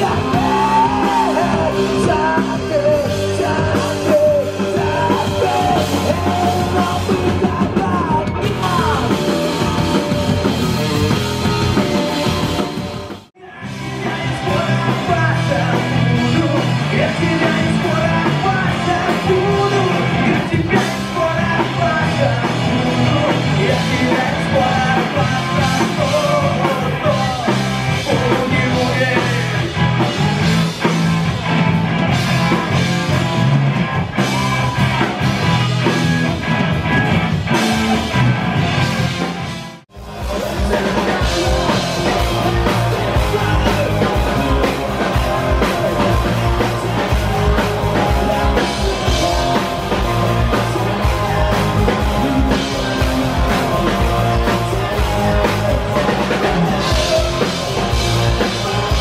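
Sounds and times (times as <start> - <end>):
person singing: 0.0 - 12.7, 13.4 - 31.0, 39.9 - 59.0
bass guitar: 0.0 - 59.0
drum kit: 0.0 - 59.0
electric guitars: 0.0 - 59.0.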